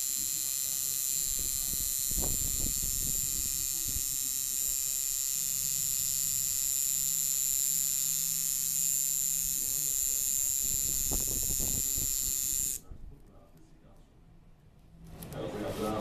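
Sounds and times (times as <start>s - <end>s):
tattoo machine buzzing: 0.0s - 12.8s.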